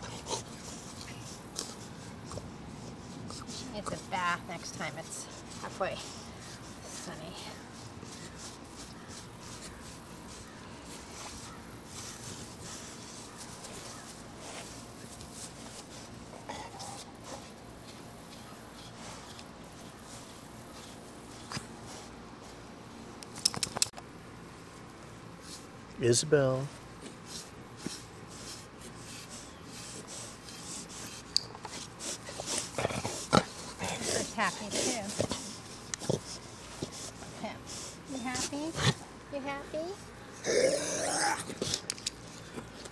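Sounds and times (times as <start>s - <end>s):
brush rubbing through dog fur: 0.0s - 23.0s, 24.7s - 25.8s, 26.4s - 40.2s.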